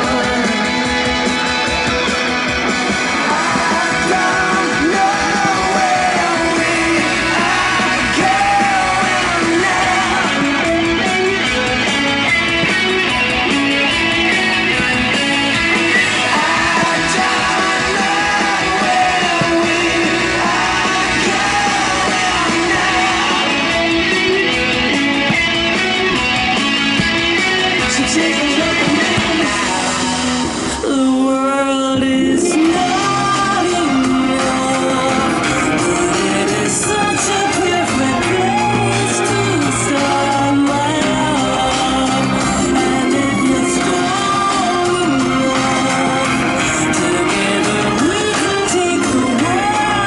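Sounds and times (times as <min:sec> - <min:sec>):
rock song with singing and guitar: 0:00.0 - 0:50.0.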